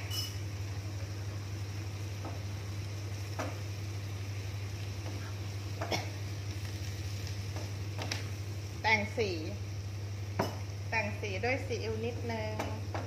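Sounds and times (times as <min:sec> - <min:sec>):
stir-fry hissing in pan: 0:00.0 - 0:13.0.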